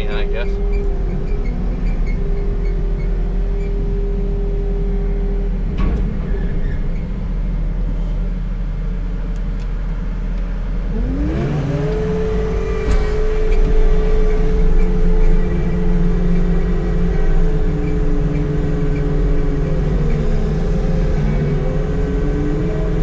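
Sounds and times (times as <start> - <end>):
skid loader engine whining: 0.0 - 23.0.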